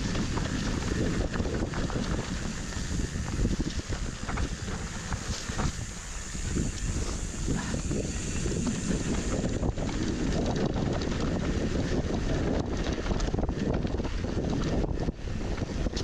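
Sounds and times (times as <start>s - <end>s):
bike knocks and rattles: 0.0s - 16.0s
tyres rolling on dirt trail: 0.0s - 16.0s
wind on microphone: 0.0s - 16.0s.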